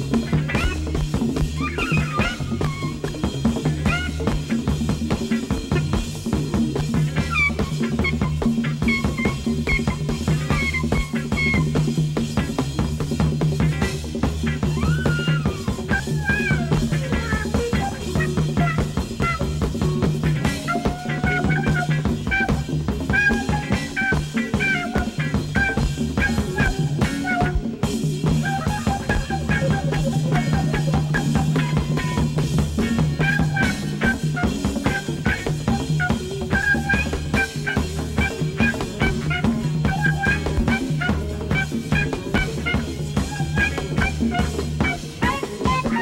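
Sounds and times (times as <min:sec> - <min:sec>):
trumpet line: 0:00.0 - 0:04.8, 0:07.0 - 0:12.5, 0:14.5 - 0:46.0
jazz-rock band playing live: 0:00.0 - 0:46.0.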